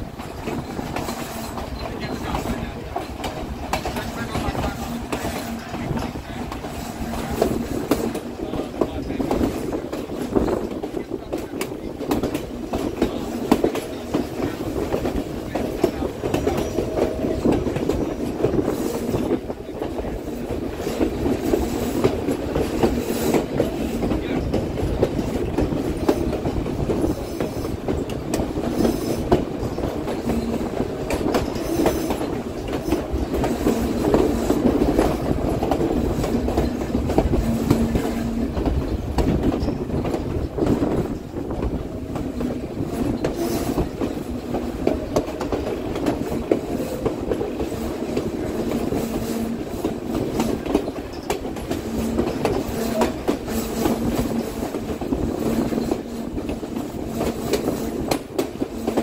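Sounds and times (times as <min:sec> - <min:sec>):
train rumble: 0:00.0 - 0:59.0
wheels clicking over rail joints: 0:00.0 - 0:59.0.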